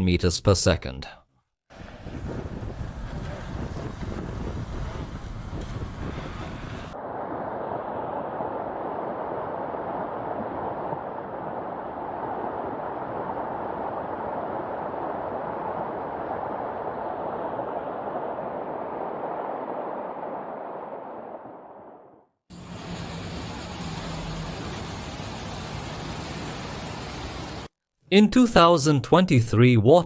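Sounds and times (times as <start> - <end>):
floodwater rushing: 1.7 - 21.8, 22.5 - 27.7.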